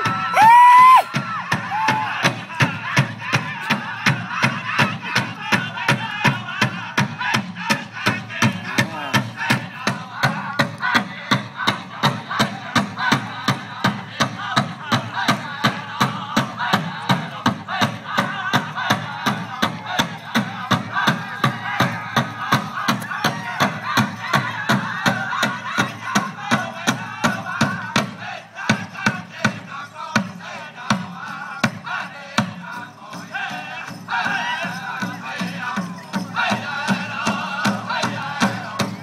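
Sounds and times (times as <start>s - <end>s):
big drum steady fast beat: 0.0s - 39.0s
group singing: 1.2s - 39.0s.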